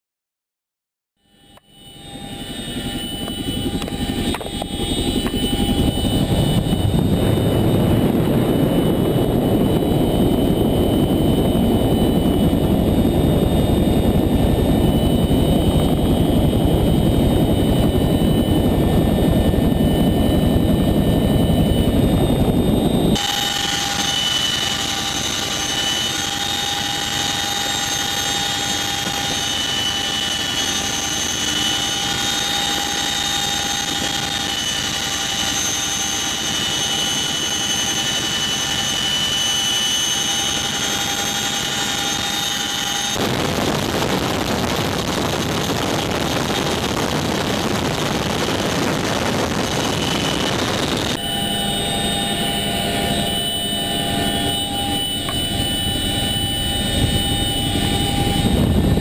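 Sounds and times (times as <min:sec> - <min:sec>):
helicopter low rumble: 0:01.2 - 0:59.0
helicopter turbine whine: 0:01.2 - 0:59.0.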